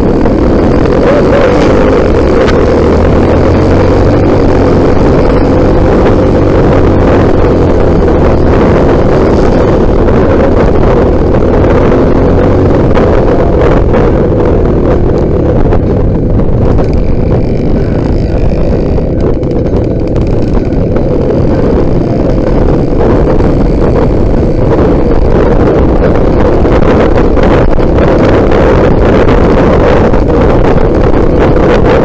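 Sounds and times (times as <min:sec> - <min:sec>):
motorcycle engine running: 0:00.0 - 0:32.0
wind buffeting on microphone: 0:00.0 - 0:32.0.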